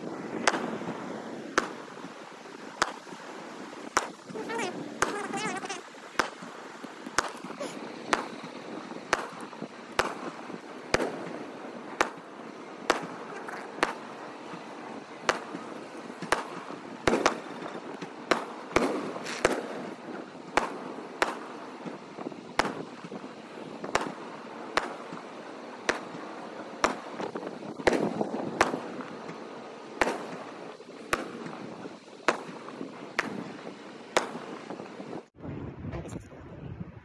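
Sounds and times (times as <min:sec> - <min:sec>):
firework shells bursting: 0:00.0 - 0:35.3.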